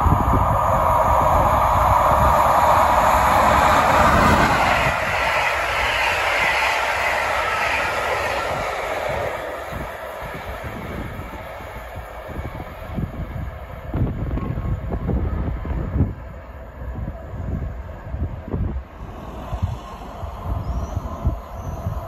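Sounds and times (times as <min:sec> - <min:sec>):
train wheels on rails: 0:00.0 - 0:22.0
wind buffeting microphone: 0:00.0 - 0:22.0.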